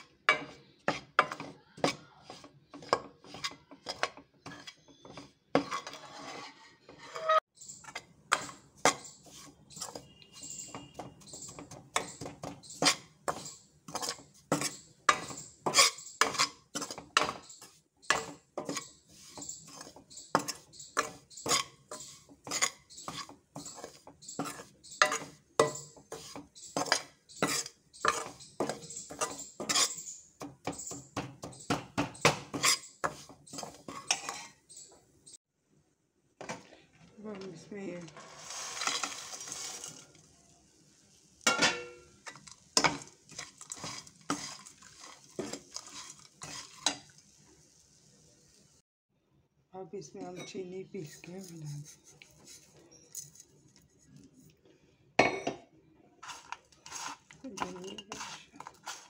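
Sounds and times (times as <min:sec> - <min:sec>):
steel spoon scraping a pan: 0:00.0 - 0:35.4, 0:38.0 - 0:40.4, 0:41.4 - 0:47.2, 0:50.3 - 0:54.5, 0:56.2 - 0:59.0.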